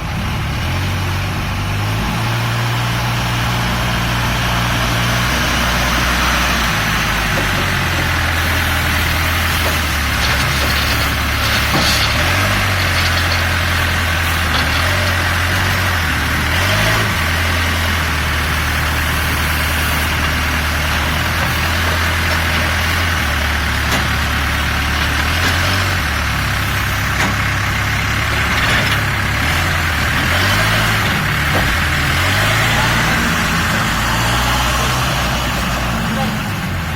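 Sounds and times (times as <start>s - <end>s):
backhoe diesel engine revving: 0.0s - 36.9s.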